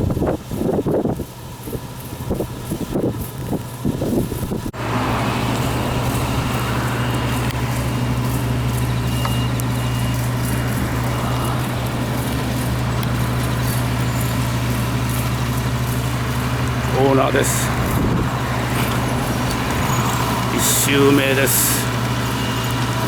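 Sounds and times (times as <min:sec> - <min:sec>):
farm machine engine running: 0:00.0 - 0:23.0.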